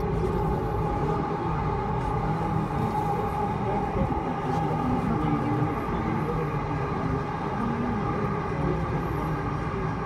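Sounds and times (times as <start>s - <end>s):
constant whine: 0.0s - 10.0s
train wheels rumbling on rails: 0.0s - 10.0s.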